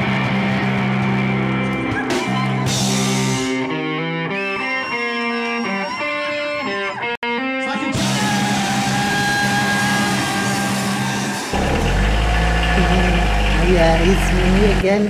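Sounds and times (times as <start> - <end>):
electric guitar music: 0.0 - 15.0.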